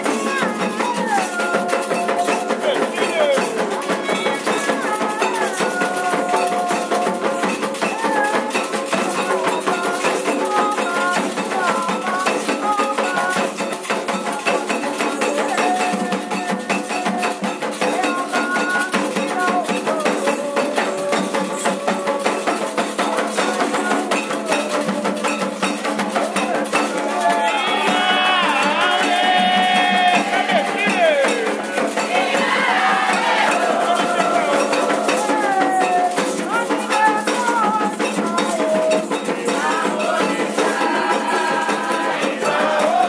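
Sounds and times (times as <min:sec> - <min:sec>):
hand drums: 0:00.0 - 0:43.0
women singing a chant: 0:00.0 - 0:43.0.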